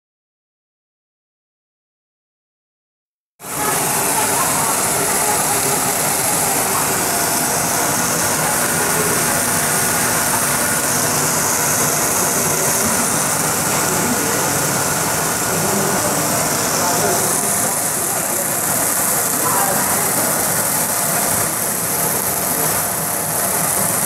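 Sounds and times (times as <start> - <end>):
extruder machine hissing: 3.4 - 24.0.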